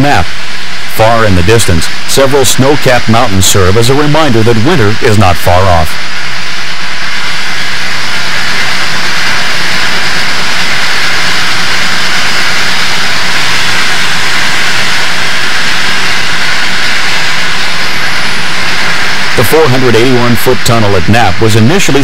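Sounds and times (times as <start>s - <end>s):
rushing air: 0.0s - 19.9s
steam locomotive running roar: 0.0s - 22.0s.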